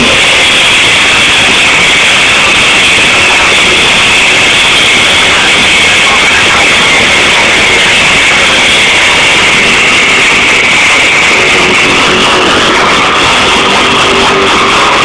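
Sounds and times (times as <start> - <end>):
distorted heavy rock band: 0.0 - 15.0
held guitar note: 0.0 - 15.0.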